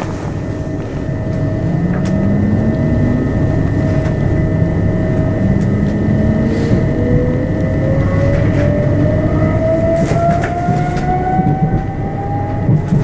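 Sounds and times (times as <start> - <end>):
train motors whining: 0.0 - 13.0
train running gear rumble: 0.0 - 13.0.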